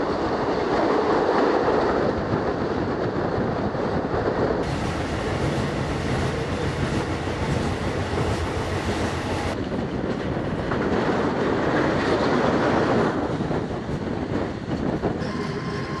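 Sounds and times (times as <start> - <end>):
train carriage rumbling on track: 0.0 - 16.0.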